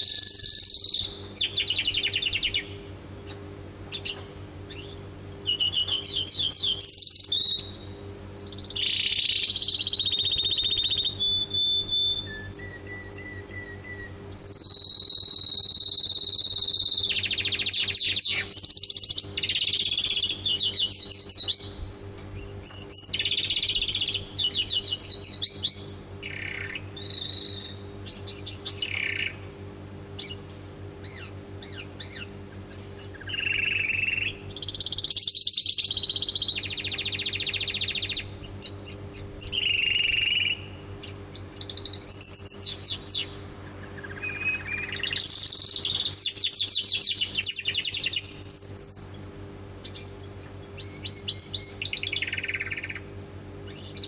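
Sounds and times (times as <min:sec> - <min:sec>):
canary singing: 0:00.0 - 0:29.5, 0:30.1 - 0:54.0
lark singing: 0:00.0 - 0:29.5, 0:30.2 - 0:54.0.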